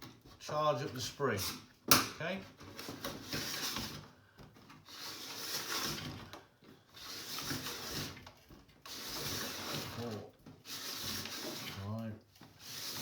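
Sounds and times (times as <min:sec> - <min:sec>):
plastic spool scraping: 0:02.4 - 0:13.0.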